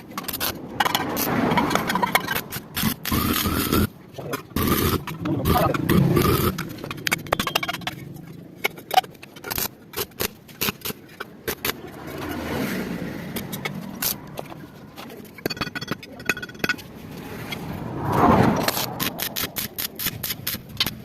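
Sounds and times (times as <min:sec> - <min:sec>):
metal parts clicking and knocking: 0:00.0 - 0:12.4, 0:13.3 - 0:16.9, 0:18.6 - 0:21.0.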